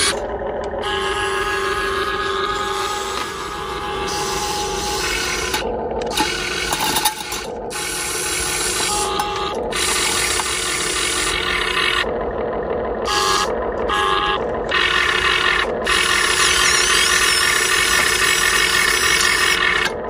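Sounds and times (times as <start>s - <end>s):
toy truck motor whirring: 0.0s - 20.0s.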